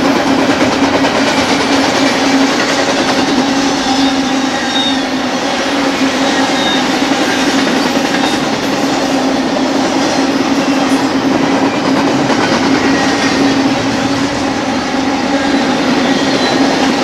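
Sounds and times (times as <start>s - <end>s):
steel wheels rolling on rail: 0.0s - 17.0s.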